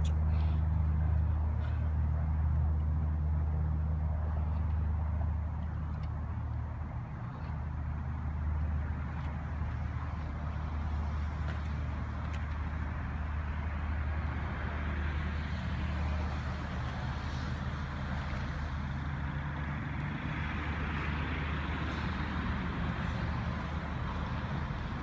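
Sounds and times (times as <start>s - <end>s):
traffic noise: 0.0s - 25.0s.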